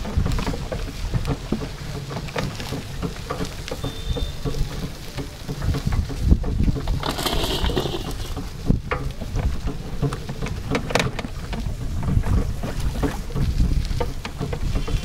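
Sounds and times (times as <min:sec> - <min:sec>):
rickshaw frame rattling: 0:00.0 - 0:15.0.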